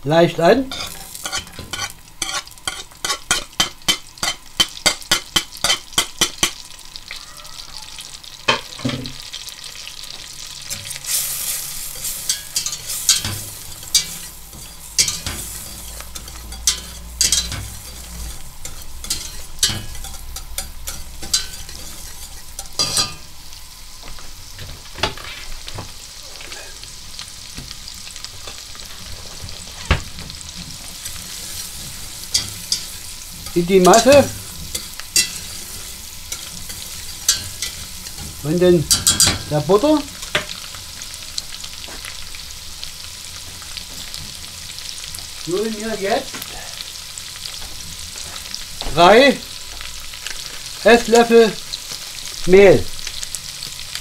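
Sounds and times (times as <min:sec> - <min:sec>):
onions sizzling in butter: 0:00.0 - 0:54.0.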